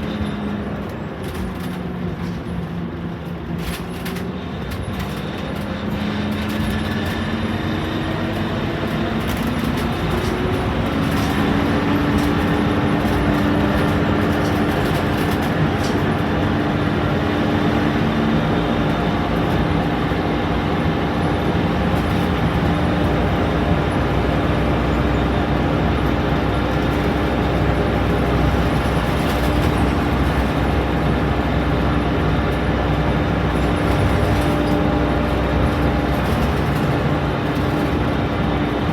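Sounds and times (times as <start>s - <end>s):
bus diesel engine pulling away: 0.0s - 38.9s.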